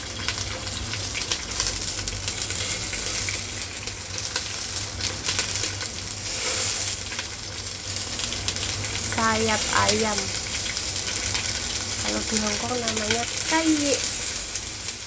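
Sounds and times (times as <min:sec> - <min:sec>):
chicken frying with crackles: 0:00.0 - 0:15.0.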